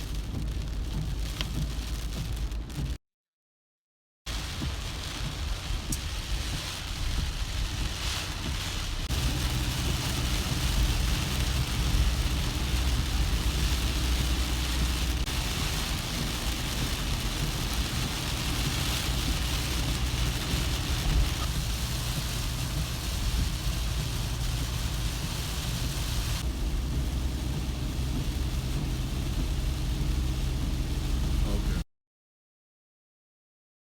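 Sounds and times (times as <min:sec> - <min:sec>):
engine and road hum: 0:00.0 - 0:03.0, 0:04.3 - 0:31.8
rain on a car: 0:00.0 - 0:03.0, 0:04.3 - 0:31.8.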